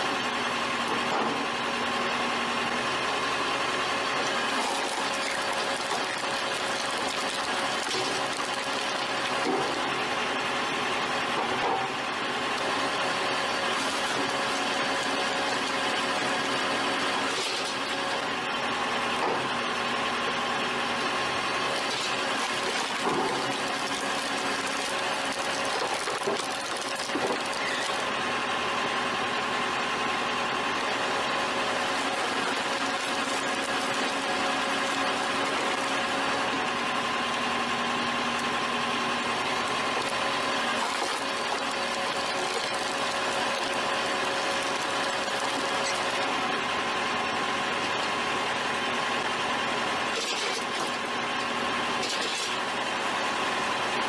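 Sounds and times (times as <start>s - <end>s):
log splitter mechanical hum: 0.0s - 54.0s.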